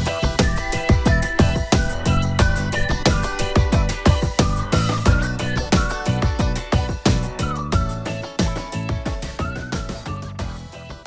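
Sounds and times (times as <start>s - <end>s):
music with a steady beat: 0.0s - 11.0s.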